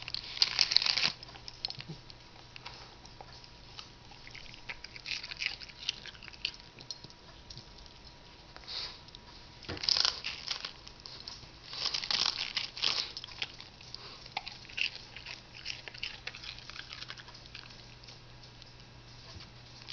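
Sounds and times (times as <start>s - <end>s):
dog crunching lettuce: 0.0s - 8.0s, 9.6s - 18.8s.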